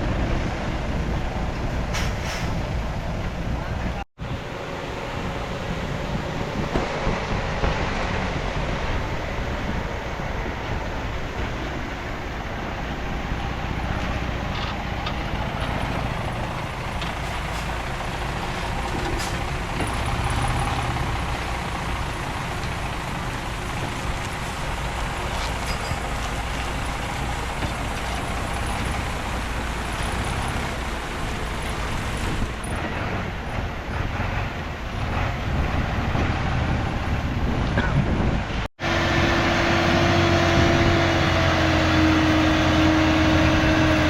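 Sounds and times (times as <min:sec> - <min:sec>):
heavy machinery diesel engines: 0:00.0 - 0:44.0.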